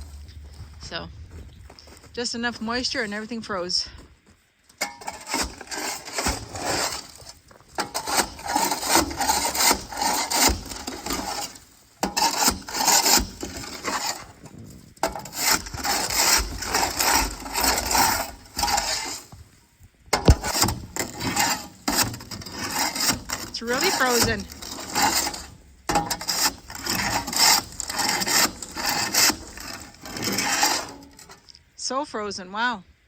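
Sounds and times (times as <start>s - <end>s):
rasping scraping of frozen sand: 4.8s - 31.6s.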